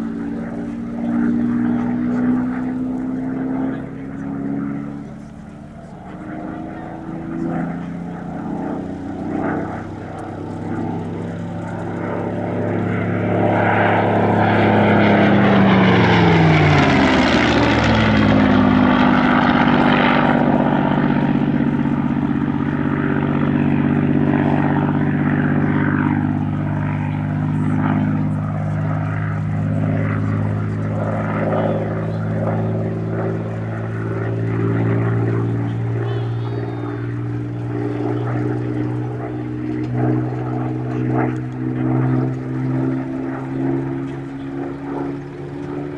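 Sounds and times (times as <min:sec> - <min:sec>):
propeller aircraft engine passing: 0:00.0 - 0:45.9.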